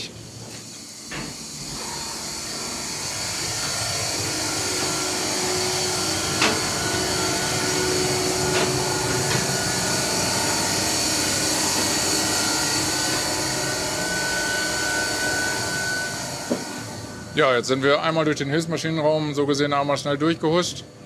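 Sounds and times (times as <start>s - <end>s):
high steady whine: 0.0s - 19.6s
engine room machinery noise: 0.0s - 21.0s.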